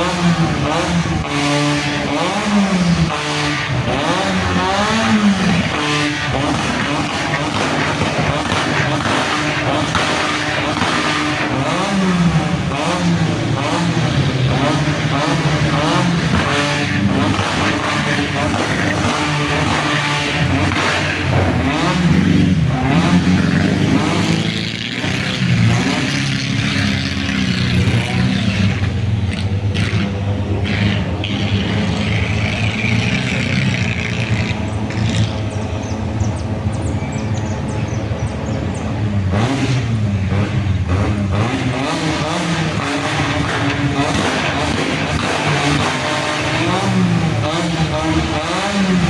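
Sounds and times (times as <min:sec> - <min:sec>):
buggy engine revving: 0:00.0 - 0:49.0.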